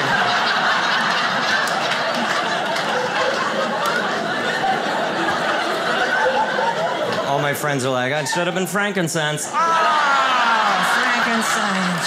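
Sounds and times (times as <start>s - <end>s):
audience laughing: 0.0s - 8.8s, 9.6s - 12.0s.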